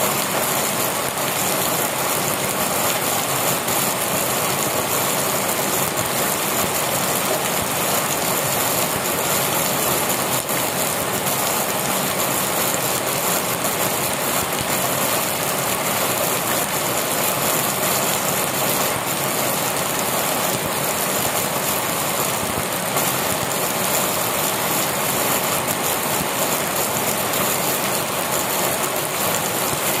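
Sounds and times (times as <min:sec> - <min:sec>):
heavy rain on concrete and leaves: 0:00.0 - 0:30.0.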